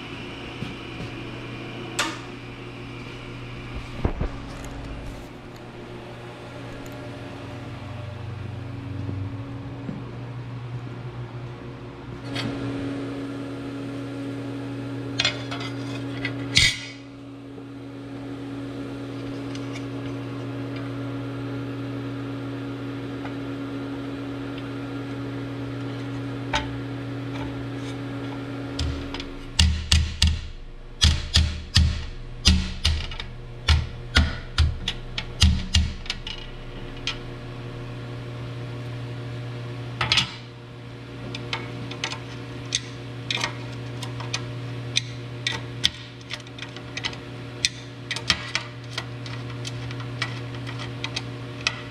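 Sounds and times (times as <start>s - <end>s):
steady machine hum: 0.0s - 51.9s.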